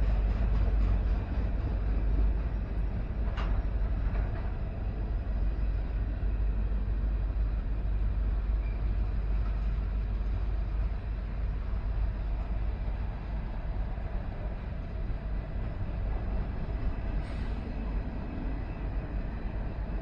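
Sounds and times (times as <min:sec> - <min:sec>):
diesel locomotive rumbling: 0:00.0 - 0:20.0.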